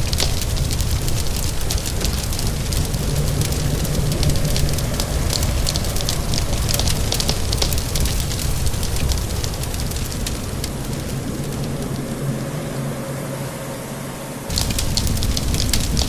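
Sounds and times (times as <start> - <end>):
wood fire crackling and popping: 0.0 - 12.6, 14.5 - 16.0
low rumble: 0.0 - 16.0
rain hissing: 0.0 - 16.0.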